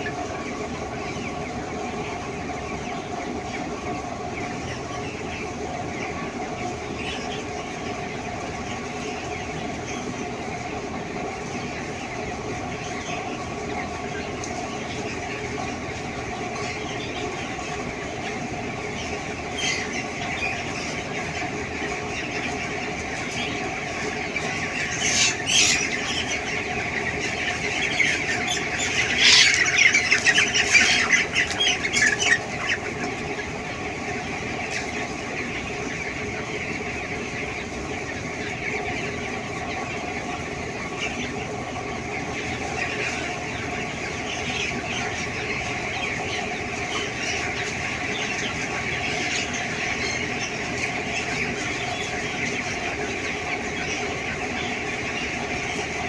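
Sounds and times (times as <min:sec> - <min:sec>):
chickens chirping and cheeping: 0:00.0 - 0:56.0
chickens squawking: 0:00.0 - 0:56.0.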